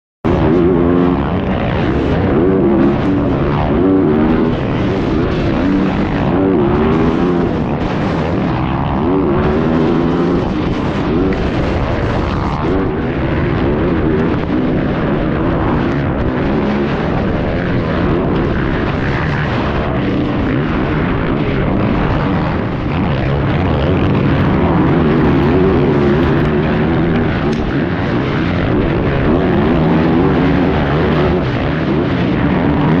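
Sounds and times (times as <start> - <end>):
dirt bike engines revving: 0.3 - 33.0.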